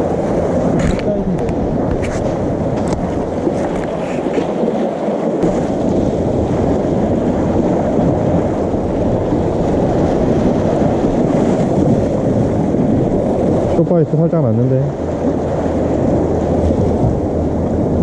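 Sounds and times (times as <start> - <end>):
seawater washing against rocks: 0.0 - 18.0.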